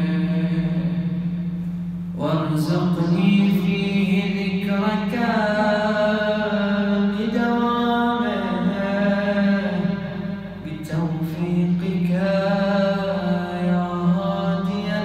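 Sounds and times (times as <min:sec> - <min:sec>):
man chanting: 0:00.0 - 0:01.3, 0:02.2 - 0:15.0.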